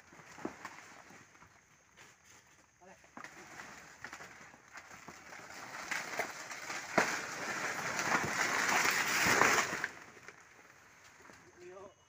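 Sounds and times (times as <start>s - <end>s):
leaves rustling: 0.0s - 11.9s.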